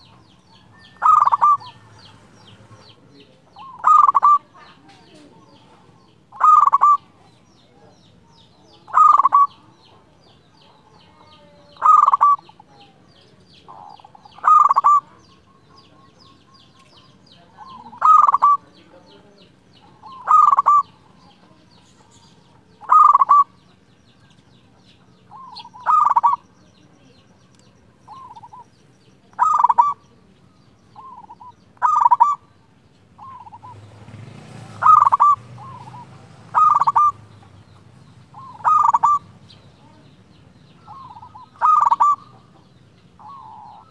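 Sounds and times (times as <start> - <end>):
dove cooing song: 0.0 - 43.9.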